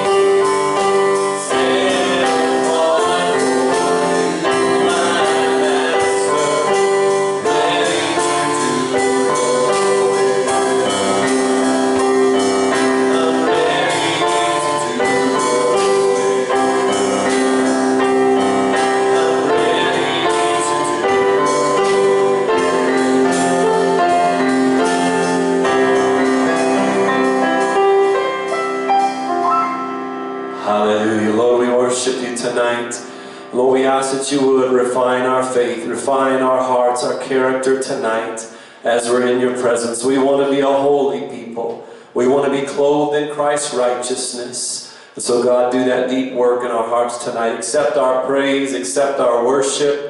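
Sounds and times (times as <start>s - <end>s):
worship singing: 0.0s - 28.6s, 29.7s - 50.0s
keyboard chords: 0.0s - 42.9s.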